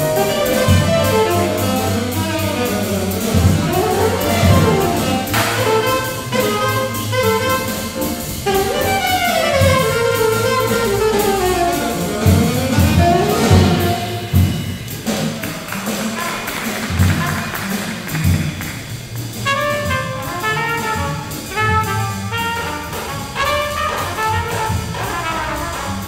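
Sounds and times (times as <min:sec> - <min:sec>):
alto saxophone: 0:00.0 - 0:14.8, 0:19.3 - 0:26.0
drums with cymbal beat: 0:00.0 - 0:26.0
piano: 0:00.0 - 0:26.0
walking double bass: 0:00.0 - 0:26.0.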